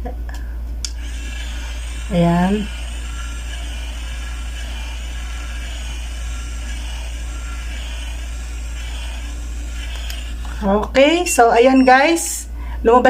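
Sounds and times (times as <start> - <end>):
low electrical hum: 0.0 - 13.0
faint high whine: 0.9 - 12.5.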